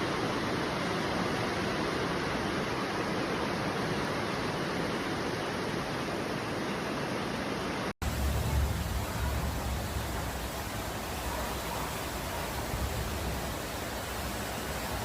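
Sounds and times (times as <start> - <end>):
heavy rushing water: 0.0 - 15.0.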